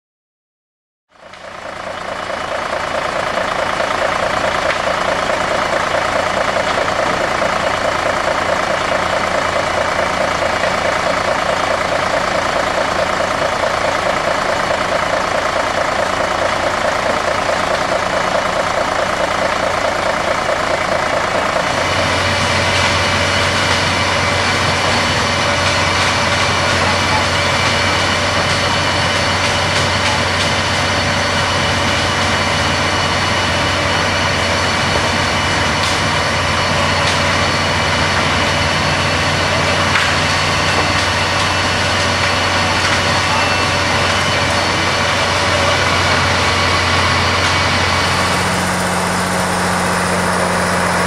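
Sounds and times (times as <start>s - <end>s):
wood chipper running: 1.1s - 51.0s.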